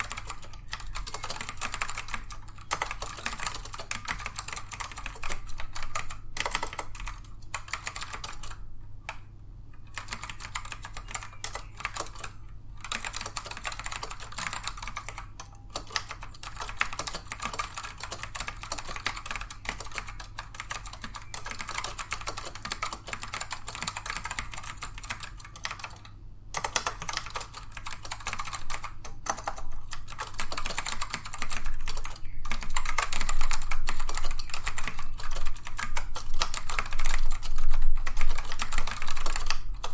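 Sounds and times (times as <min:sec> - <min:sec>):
fast keyboard typing: 0:00.0 - 0:09.2, 0:09.8 - 0:39.9.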